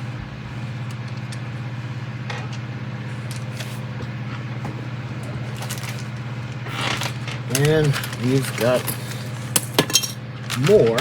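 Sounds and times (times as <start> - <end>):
low motor hum with flutter: 0.0 - 11.0.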